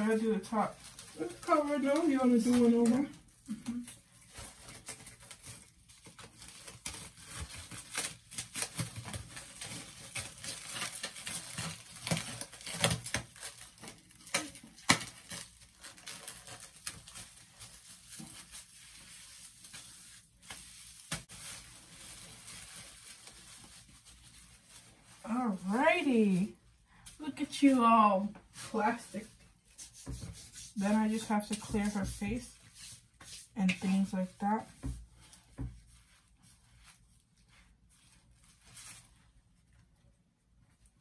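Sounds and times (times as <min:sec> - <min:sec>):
cling wrap crinkling: 0:00.0 - 0:39.8.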